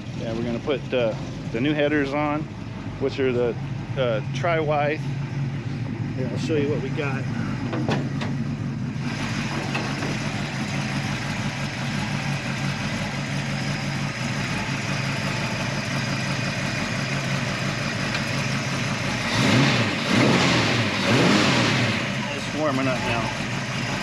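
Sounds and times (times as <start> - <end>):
v eight engine idling: 0.0 - 24.0.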